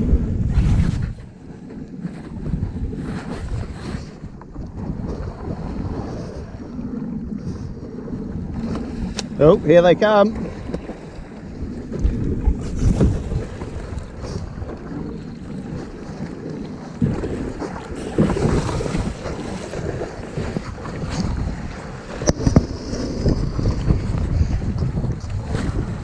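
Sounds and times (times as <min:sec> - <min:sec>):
water splashing around kayak: 0:00.0 - 0:26.0
wind buffeting microphone: 0:00.0 - 0:26.0.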